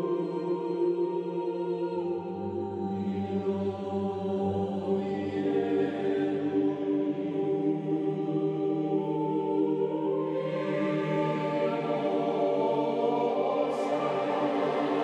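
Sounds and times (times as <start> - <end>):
slow sustained chord music: 0.0 - 15.0.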